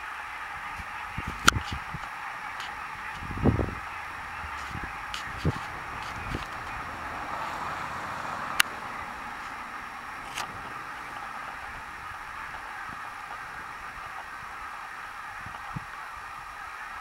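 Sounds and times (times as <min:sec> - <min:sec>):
outdoor rushing noise: 0:00.0 - 0:17.0.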